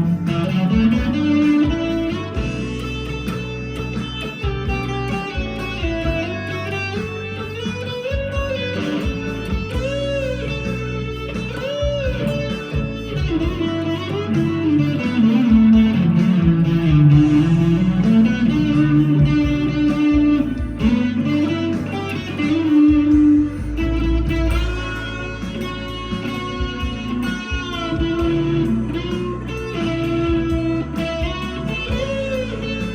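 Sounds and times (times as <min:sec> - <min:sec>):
backing track with bass and drums: 0:00.0 - 0:32.9
overdriven electric guitar lead: 0:00.0 - 0:32.9.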